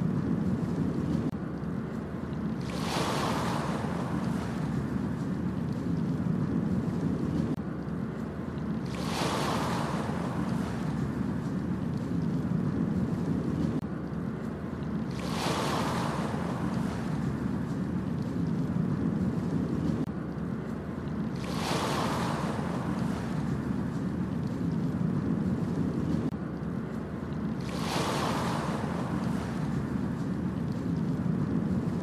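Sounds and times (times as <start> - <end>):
low rumble of surf: 0.0 - 32.0
ocean waves breaking: 0.0 - 32.0.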